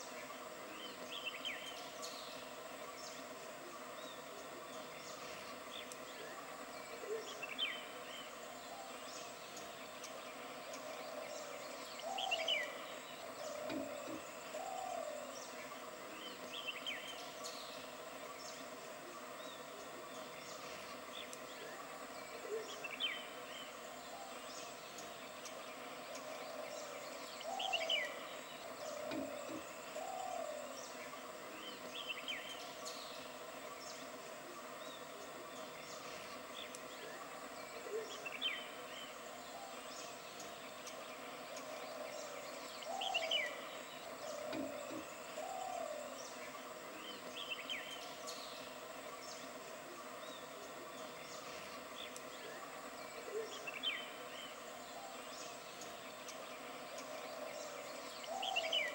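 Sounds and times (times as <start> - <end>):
steady hiss: 0.0 - 58.9.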